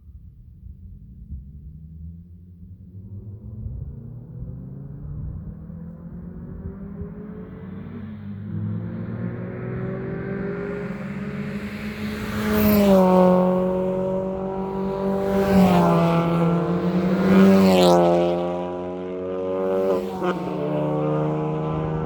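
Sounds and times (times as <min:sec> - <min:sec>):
car engine revving: 0:02.9 - 0:22.0.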